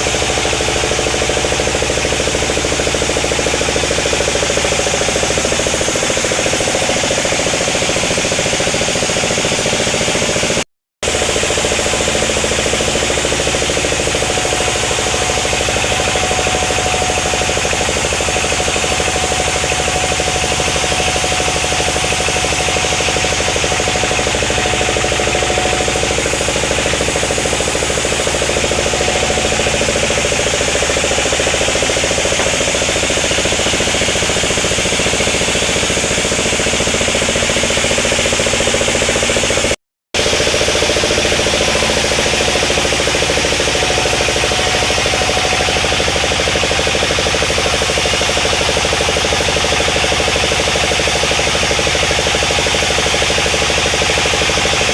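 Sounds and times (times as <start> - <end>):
sawmill saw and engine running: 0.0 - 54.9.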